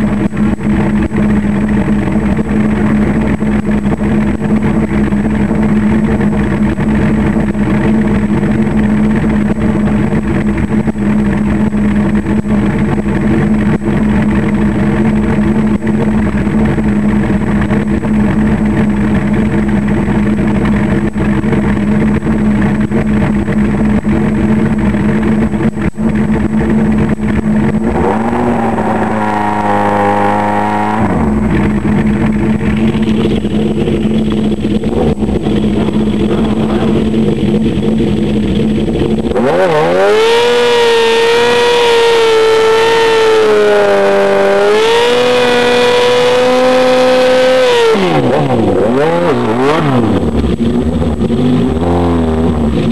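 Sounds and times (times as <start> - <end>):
motorcycle engine running: 0.0 - 52.9
second engine revving: 0.0 - 52.9.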